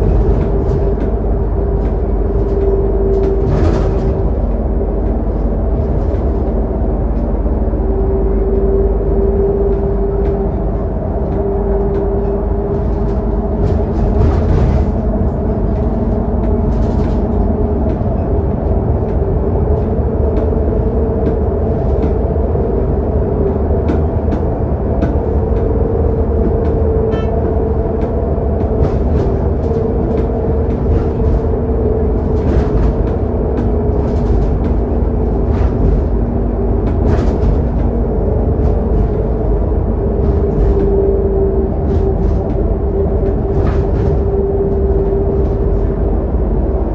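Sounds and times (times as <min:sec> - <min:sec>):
bus engine drone with whine: 0:00.0 - 0:46.9
road and tyre rumble: 0:00.0 - 0:46.9.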